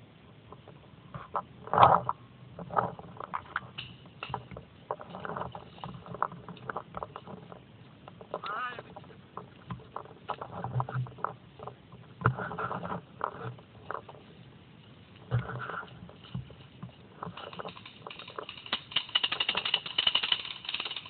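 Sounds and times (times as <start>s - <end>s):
stems and grass brushing: 1.2s - 21.0s.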